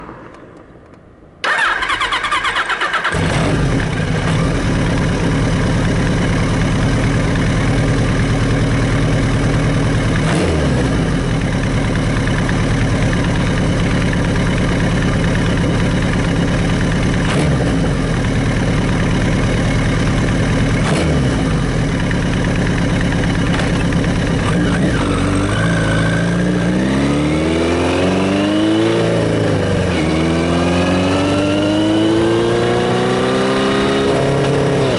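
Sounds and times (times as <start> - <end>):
motorcycle engine revving: 1.4 - 34.9.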